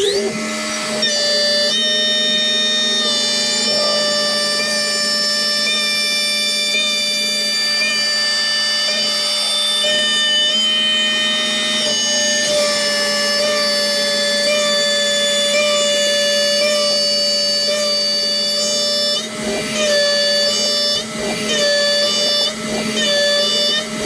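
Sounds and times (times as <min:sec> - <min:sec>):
mill spindle cutting whine: 0:00.0 - 0:24.0.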